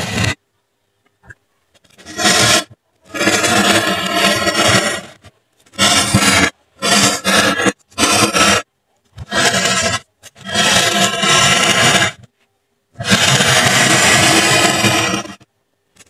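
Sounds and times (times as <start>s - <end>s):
pen scraping foam board: 0.0s - 0.4s, 1.7s - 12.3s, 13.0s - 15.5s.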